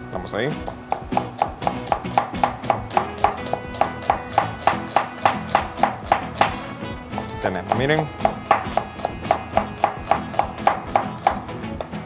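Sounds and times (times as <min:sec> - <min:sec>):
background music: 0:00.0 - 0:12.0
knife tapping on cutting board: 0:00.6 - 0:06.6, 0:07.2 - 0:12.0.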